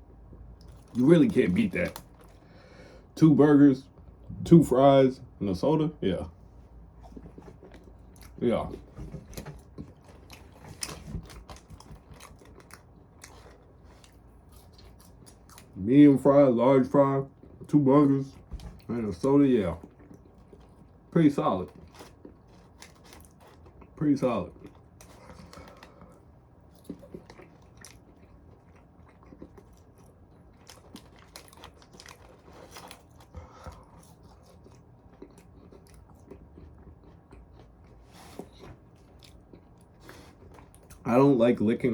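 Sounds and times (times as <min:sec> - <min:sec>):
person chewing food: 0:00.0 - 0:03.2, 0:06.4 - 0:15.8, 0:17.3 - 0:41.1.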